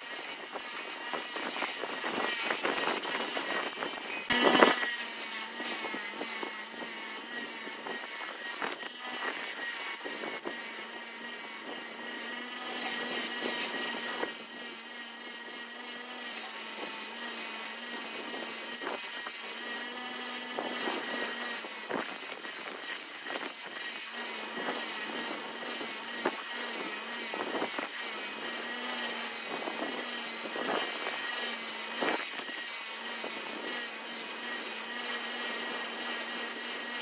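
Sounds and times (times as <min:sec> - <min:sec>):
small motor running: 0:00.0 - 0:37.0.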